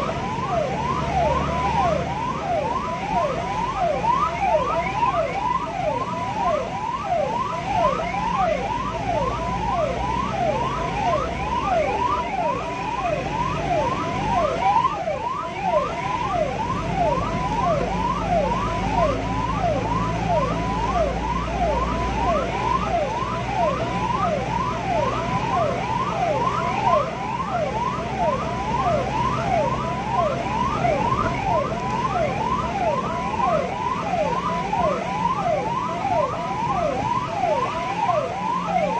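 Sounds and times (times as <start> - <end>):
ambulance siren yelping: 0.0 - 38.9
vehicle engine and road noise: 0.0 - 38.9.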